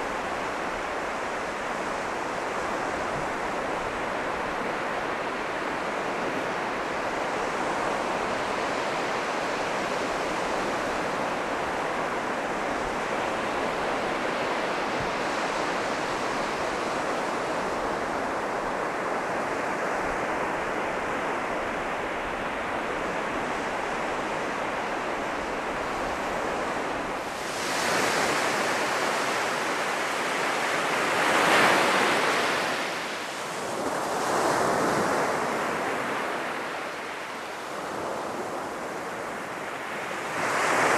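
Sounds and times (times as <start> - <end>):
sea surf on sandy beach: 0.0 - 40.9
waves breaking: 0.0 - 40.9.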